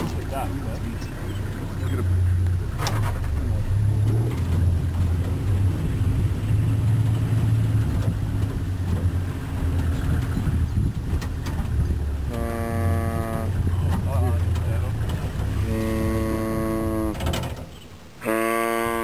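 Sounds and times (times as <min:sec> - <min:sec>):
vehicle engine idling: 0:00.0 - 0:18.1.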